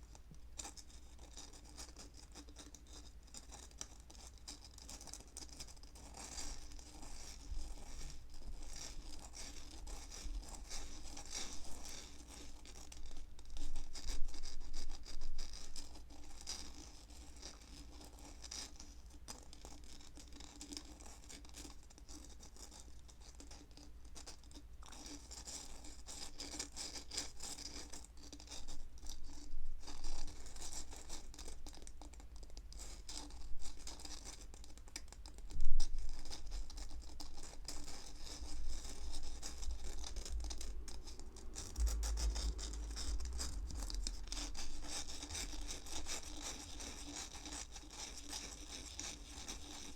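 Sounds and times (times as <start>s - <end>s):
close scratching and brushing: 0.0s - 49.9s.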